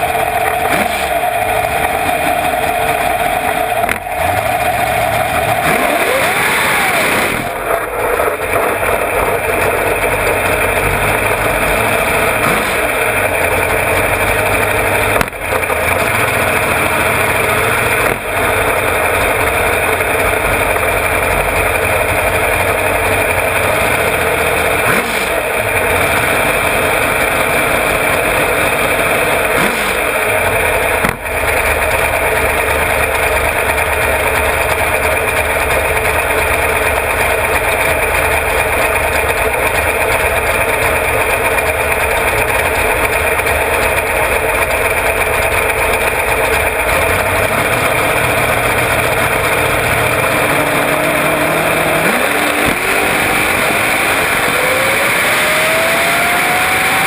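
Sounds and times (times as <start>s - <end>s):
engine revving up: 0.0s - 35.7s, 44.8s - 57.0s
dragster engine idling: 0.0s - 57.0s.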